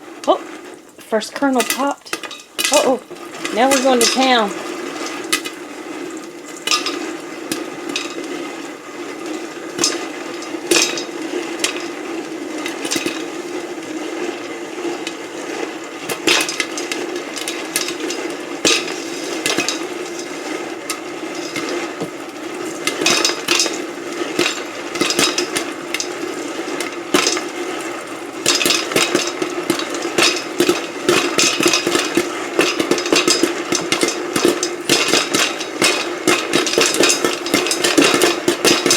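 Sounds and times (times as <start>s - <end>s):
popcorn popping: 0.0s - 38.9s.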